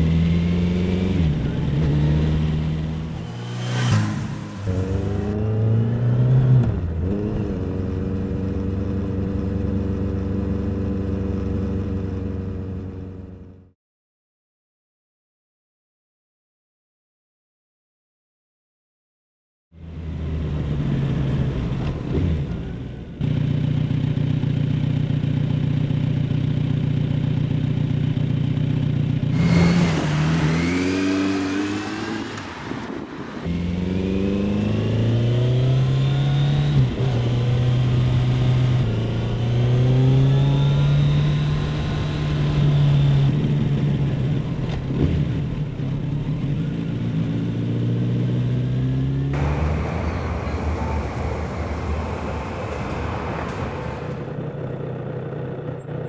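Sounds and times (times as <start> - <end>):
motorcycle engine revving: 0.0 - 13.7, 19.8 - 56.0.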